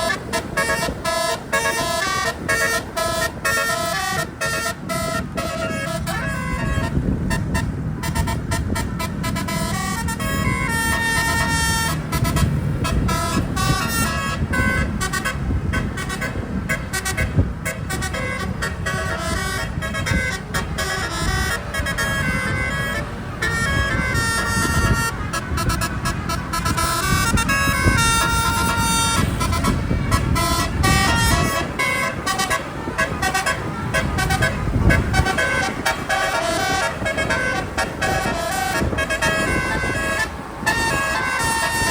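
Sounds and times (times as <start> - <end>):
air horns playing a tune: 0.0 - 41.9
engine and road rumble: 0.0 - 41.9.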